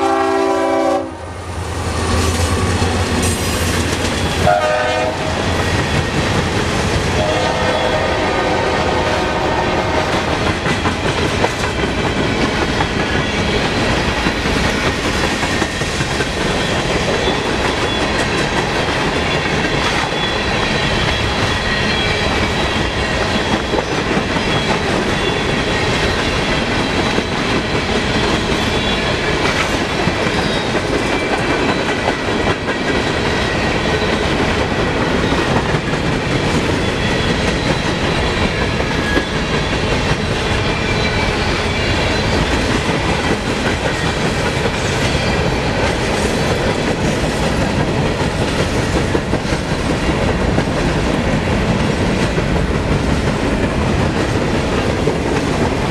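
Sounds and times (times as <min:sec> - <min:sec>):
train wheels rumbling on rail: 0:00.0 - 0:55.9
clickety-clack over rail joints: 0:02.6 - 0:08.7, 0:09.7 - 0:55.9.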